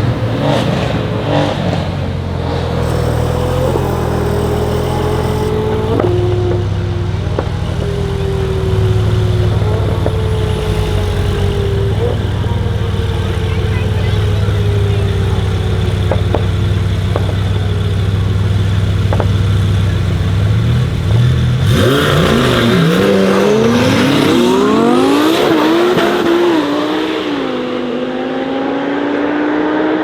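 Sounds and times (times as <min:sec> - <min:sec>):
sports car engine accelerating: 0:00.0 - 0:30.0.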